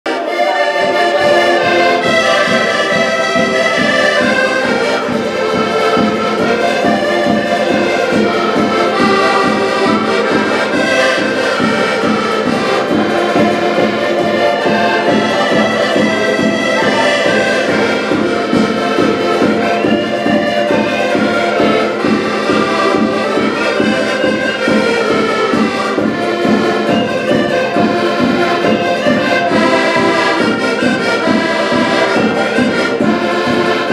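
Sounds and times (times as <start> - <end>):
accordion ensemble playing folk tune: 0.0 - 33.9.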